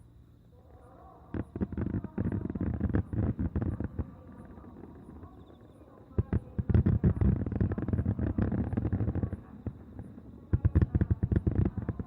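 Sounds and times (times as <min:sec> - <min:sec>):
fireworks crackling and popping: 0:01.3 - 0:05.4, 0:06.2 - 0:12.0.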